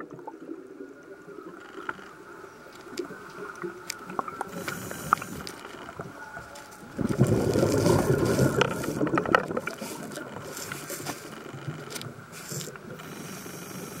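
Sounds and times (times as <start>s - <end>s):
faint underwater hum: 0.0s - 14.0s
small underwater clicks: 1.5s - 14.0s.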